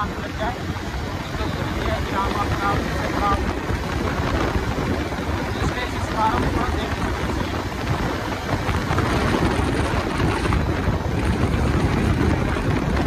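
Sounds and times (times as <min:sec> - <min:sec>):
motorcycle running: 0:00.0 - 0:13.0
wind rushing over microphone: 0:00.0 - 0:13.0.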